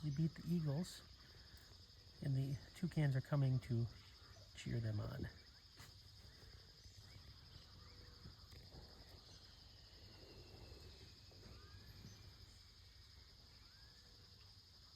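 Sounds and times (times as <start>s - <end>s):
faint bird chirps: 0.0s - 14.9s
high-pitched insect hum: 0.0s - 14.9s.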